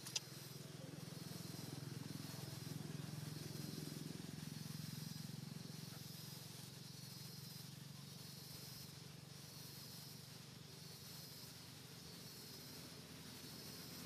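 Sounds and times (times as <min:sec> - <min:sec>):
constant high hiss: 0:00.0 - 0:14.0
low even hum: 0:00.0 - 0:14.0.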